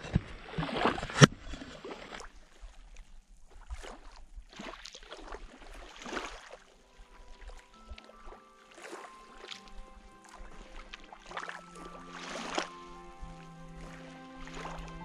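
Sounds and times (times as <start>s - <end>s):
small waves lapping on shore: 0.0s - 15.0s.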